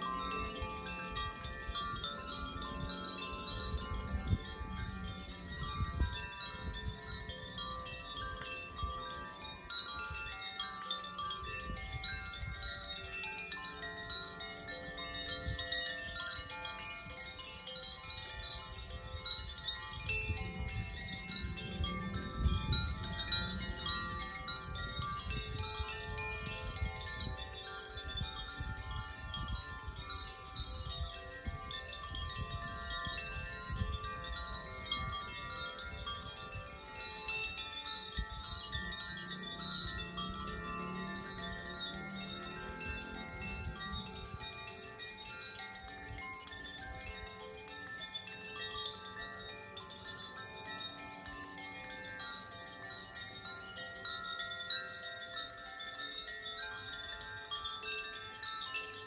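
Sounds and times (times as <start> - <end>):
tuned chimes ringing: 0.0 - 59.0.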